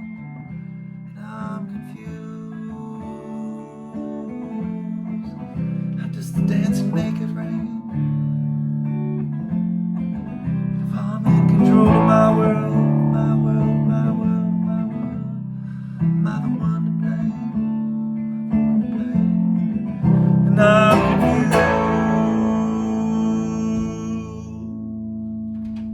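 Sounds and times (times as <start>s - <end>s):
guitar strumming chords: 0.0s - 25.9s.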